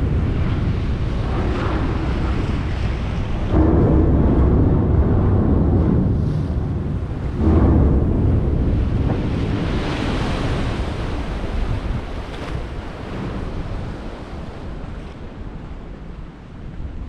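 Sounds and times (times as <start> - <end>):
water and ice slush rushing: 0.0 - 15.6
ship breaking sea ice: 0.0 - 16.0
wind buffeting microphone: 0.0 - 17.0.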